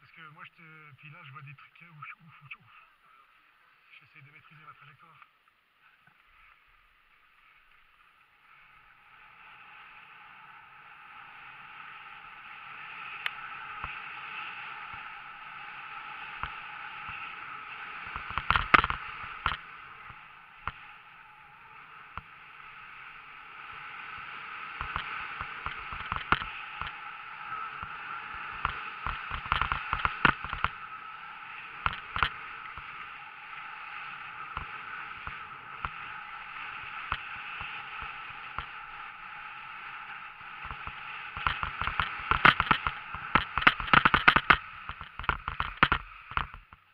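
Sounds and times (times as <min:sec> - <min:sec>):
skis sliding on snow: 0:05.8 - 0:46.9.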